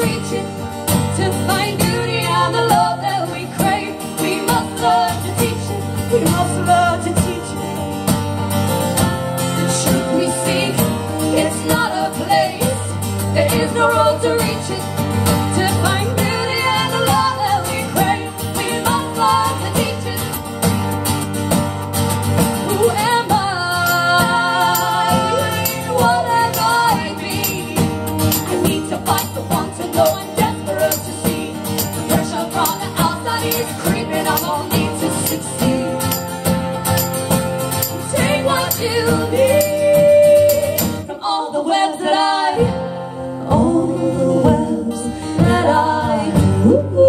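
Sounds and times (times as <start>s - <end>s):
women singing: 0.0s - 8.0s, 9.4s - 20.8s, 22.6s - 36.6s, 37.7s - 47.0s
acoustic guitars: 0.0s - 47.0s.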